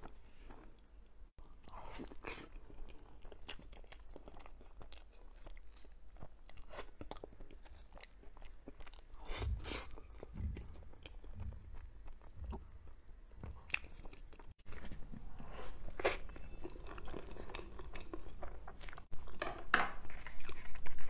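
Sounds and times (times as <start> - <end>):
close chewing and mouth smacks: 0.0 - 19.4, 20.0 - 21.0.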